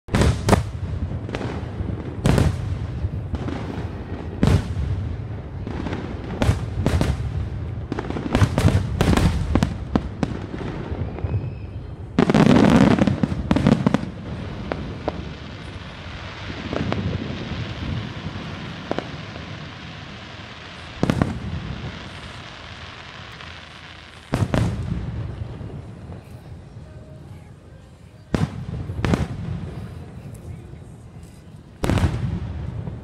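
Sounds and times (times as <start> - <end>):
fireworks bursting bangs: 0.1 - 33.0.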